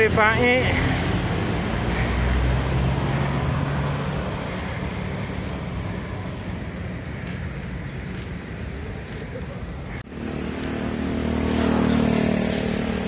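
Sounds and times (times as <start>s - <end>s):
motorcycles and cars passing: 0.0s - 13.0s.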